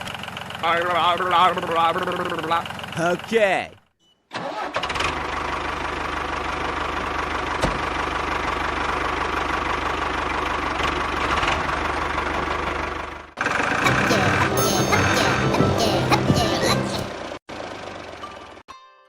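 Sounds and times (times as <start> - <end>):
small engine running: 0.0 - 3.4, 4.4 - 18.6.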